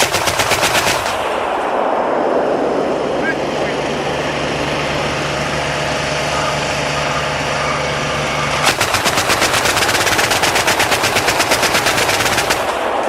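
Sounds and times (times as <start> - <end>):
autocannon rapid burst: 0.0 - 13.0
steady low drone: 0.0 - 13.0.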